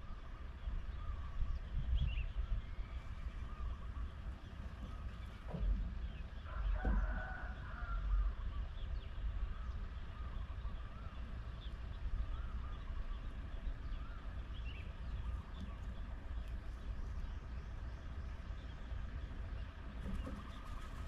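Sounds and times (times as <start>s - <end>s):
bird calling: 0.0s - 21.0s
steady low rumble: 0.0s - 21.0s.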